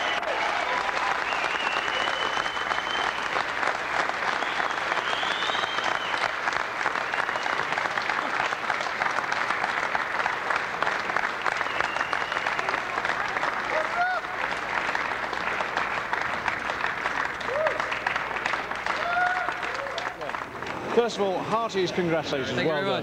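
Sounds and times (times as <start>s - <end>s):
audience applauding: 0.0s - 21.8s.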